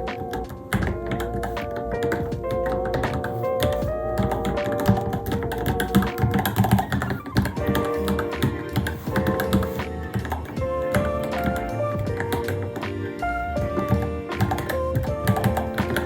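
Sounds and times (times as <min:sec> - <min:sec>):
mechanical keyboard typing: 0:00.0 - 0:12.9, 0:13.8 - 0:16.0
background music: 0:00.0 - 0:16.0.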